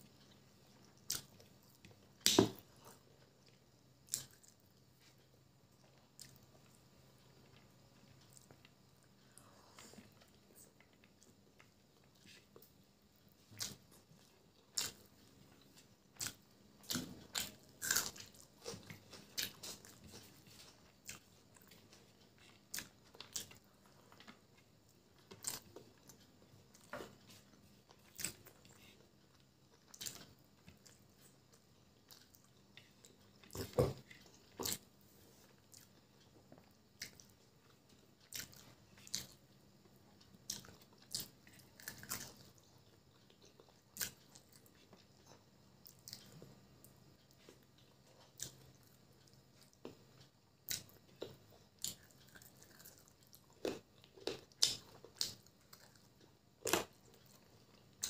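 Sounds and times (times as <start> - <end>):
chewing with wet clicks and smacks: 0.1 - 58.0.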